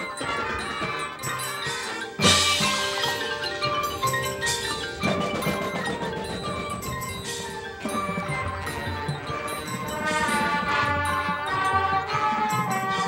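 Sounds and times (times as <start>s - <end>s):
marching band playing: 0.0s - 13.0s
marimbas and mallet percussion: 0.0s - 13.0s.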